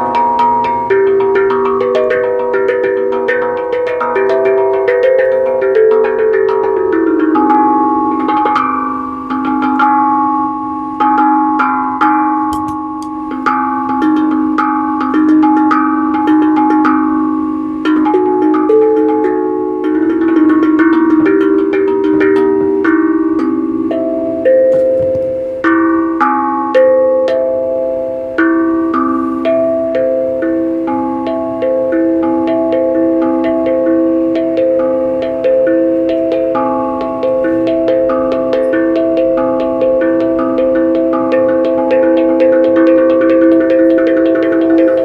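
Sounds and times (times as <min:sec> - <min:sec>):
pitched percussion melody: 0:00.0 - 0:45.0.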